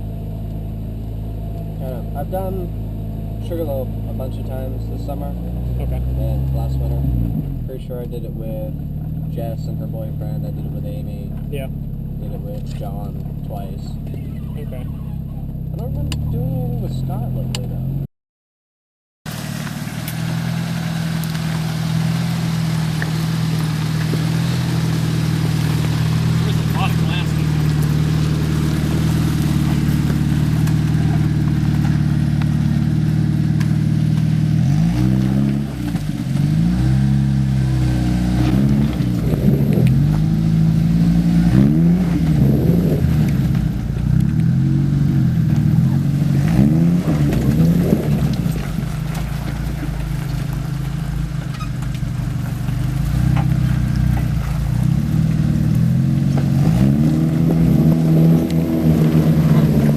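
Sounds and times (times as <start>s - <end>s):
car engine revving: 0.0s - 18.1s, 19.3s - 59.9s.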